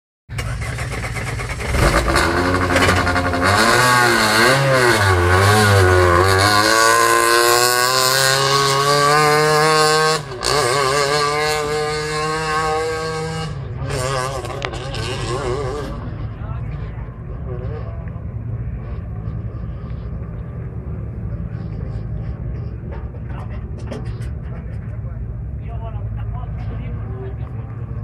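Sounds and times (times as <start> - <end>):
rally car engine revving: 0.3 - 28.0.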